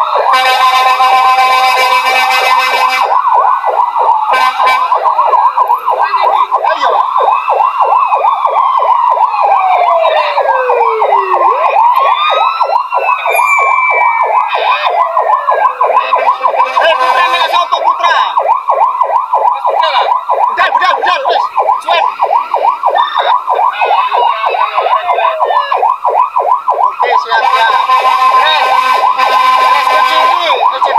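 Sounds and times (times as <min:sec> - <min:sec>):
siren fast electronic yelp: 0:00.0 - 0:30.9
siren wail gliding down: 0:00.0 - 0:30.9.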